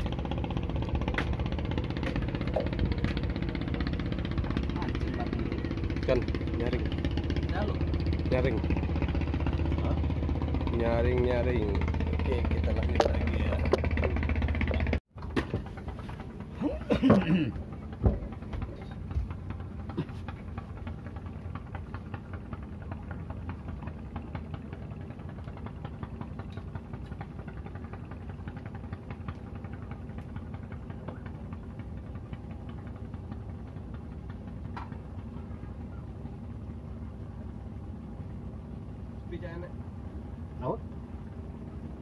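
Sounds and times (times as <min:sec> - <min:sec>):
boat engine idling with knocking: 0:00.0 - 0:42.0.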